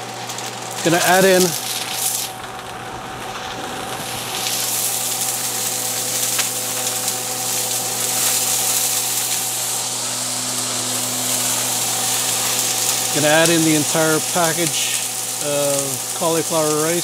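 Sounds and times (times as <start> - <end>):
exhaust fan humming: 0.0 - 17.0
food sizzling in a wok: 0.0 - 17.0.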